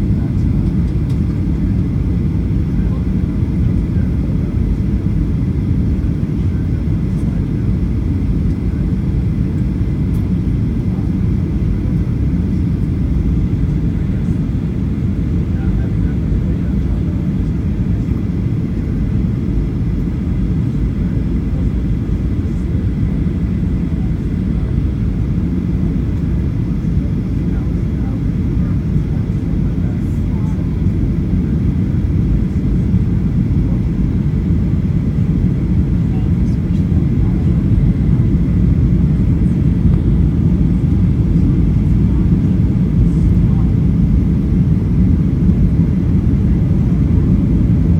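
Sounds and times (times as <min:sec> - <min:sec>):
airflow over airframe: 0:00.0 - 0:47.9
airplane cabin rumble: 0:00.0 - 0:47.9.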